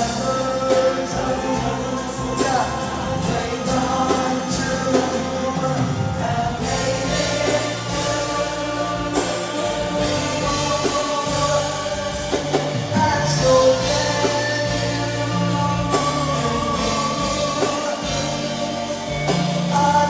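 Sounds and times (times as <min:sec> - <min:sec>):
full band with drums: 0:00.0 - 0:20.0.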